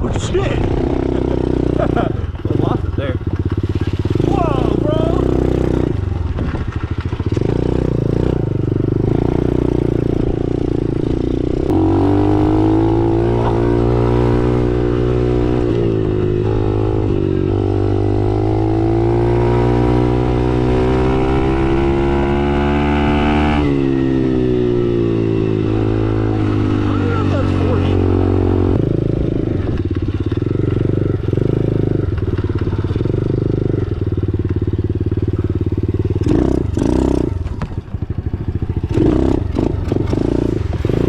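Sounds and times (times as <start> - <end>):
dirt bike engine running: 0.0 - 41.0.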